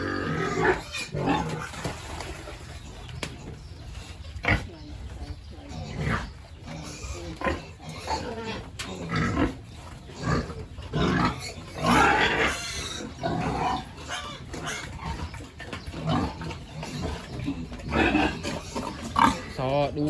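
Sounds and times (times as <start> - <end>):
pigs grunting: 0.0 - 20.0.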